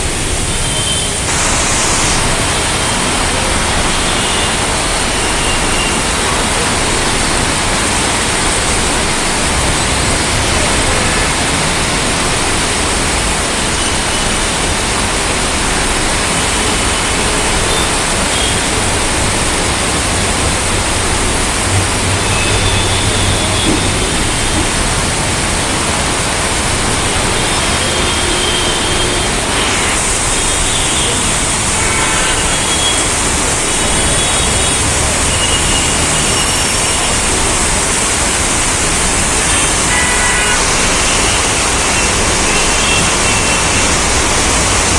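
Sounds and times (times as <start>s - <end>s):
rushing rain and floodwater: 0.0s - 44.9s.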